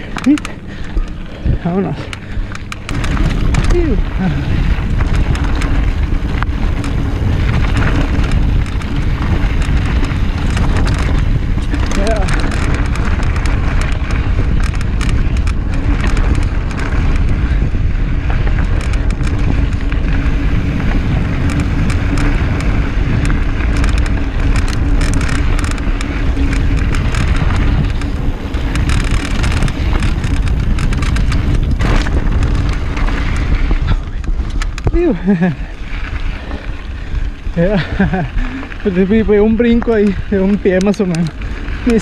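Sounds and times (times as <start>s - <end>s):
bike clattering over bumps: 0.0s - 42.0s
steady hum: 0.0s - 42.0s
tyres rolling on dirt and rock: 0.0s - 42.0s
wind rushing over microphone: 0.0s - 42.0s.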